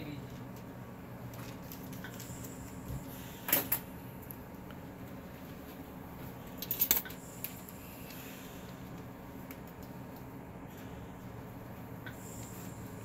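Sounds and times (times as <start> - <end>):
low equipment hum: 0.0 - 13.0.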